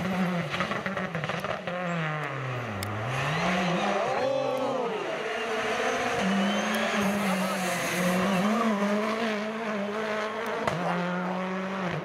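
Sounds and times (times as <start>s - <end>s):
rally car engine driving past: 0.0s - 12.0s.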